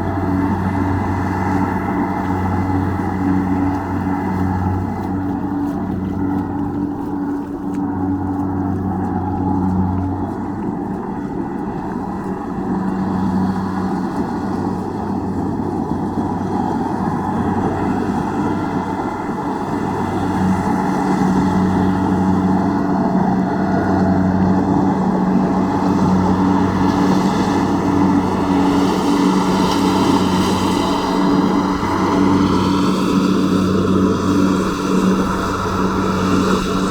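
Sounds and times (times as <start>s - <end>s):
combine harvester engine droning: 0.0s - 36.9s.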